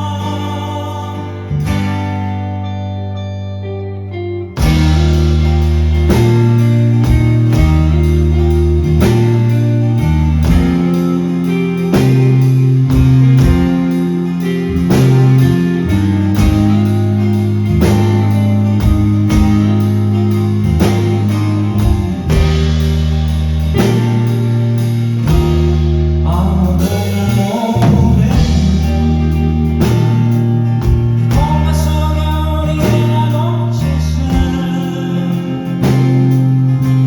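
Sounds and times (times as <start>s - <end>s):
bass guitar: 0.0s - 37.0s
electric guitar: 0.0s - 37.0s
steady drums: 4.6s - 37.0s.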